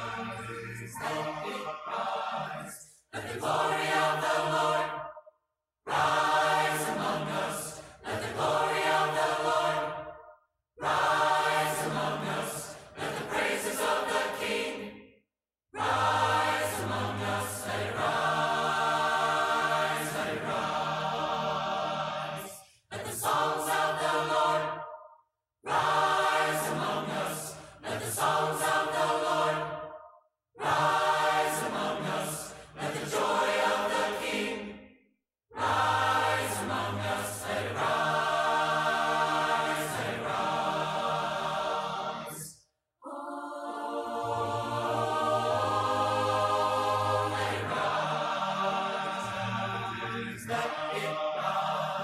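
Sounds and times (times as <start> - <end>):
choir singing a hymn: 0.0 - 5.2, 5.9 - 15.0, 15.8 - 25.1, 25.7 - 34.8, 35.6 - 52.0.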